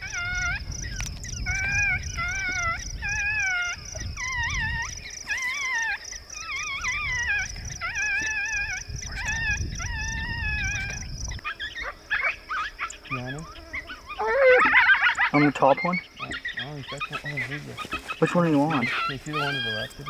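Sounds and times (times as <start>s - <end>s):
coyotes howling and yipping: 0.0s - 20.0s.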